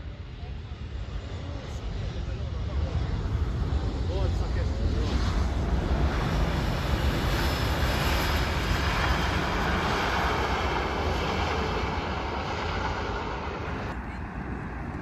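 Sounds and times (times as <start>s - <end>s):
jet engines roaring on landing: 0.0s - 15.0s.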